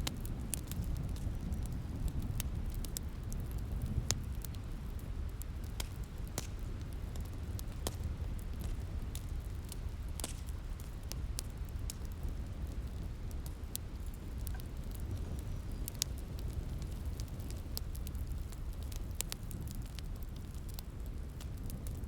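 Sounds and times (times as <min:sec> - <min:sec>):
low rumble of rain: 0:00.0 - 0:22.0
wood fire crackling and popping: 0:00.0 - 0:22.0.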